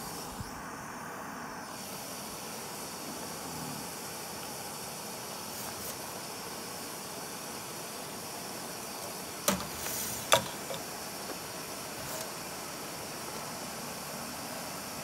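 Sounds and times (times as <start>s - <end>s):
gas stove burner hissing: 0.0s - 15.0s.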